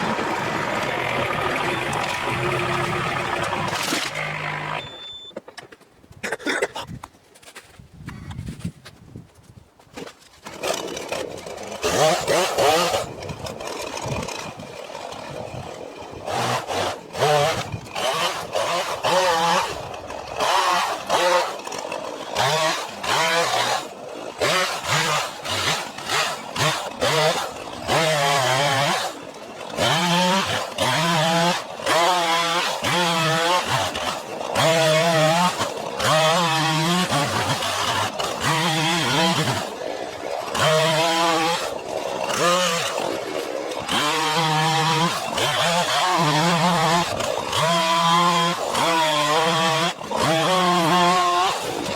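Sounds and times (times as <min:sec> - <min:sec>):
chainsaw revving and cutting: 0:00.0 - 0:05.2, 0:10.4 - 0:51.9.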